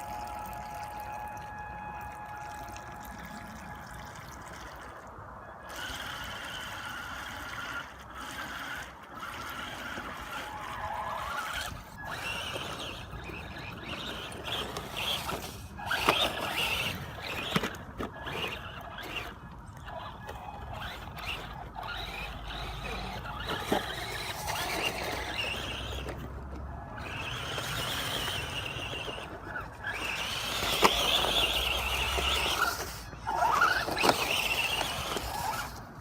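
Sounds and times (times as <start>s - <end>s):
electric motor whining: 5.7s - 36.0s.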